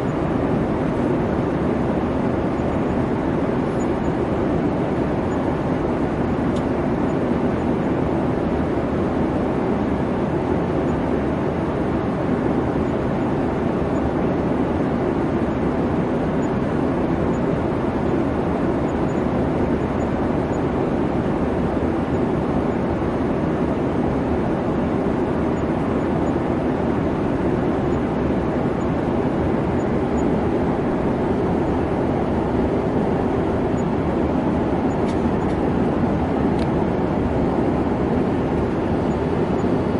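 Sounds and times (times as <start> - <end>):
airliner engine and air rush: 0.0 - 39.9.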